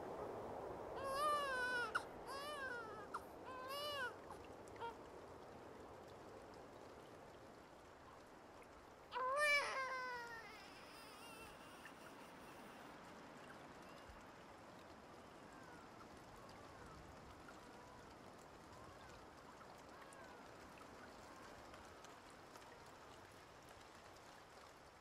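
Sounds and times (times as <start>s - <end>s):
soft even hiss: 0.0s - 25.0s.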